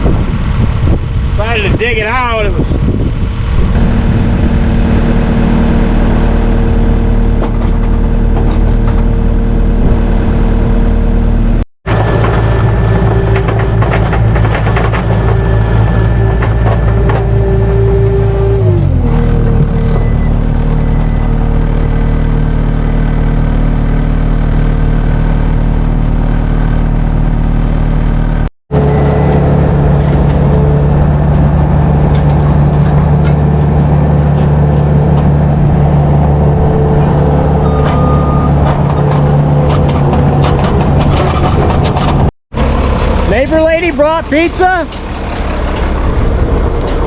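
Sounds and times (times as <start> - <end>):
farm machinery engine running: 0.0 - 47.0.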